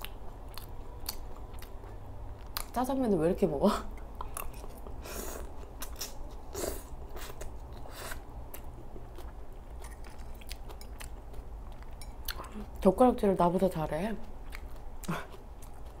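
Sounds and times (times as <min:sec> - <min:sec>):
woman chewing salad: 0:00.0 - 0:02.8, 0:03.9 - 0:12.8, 0:14.2 - 0:16.0.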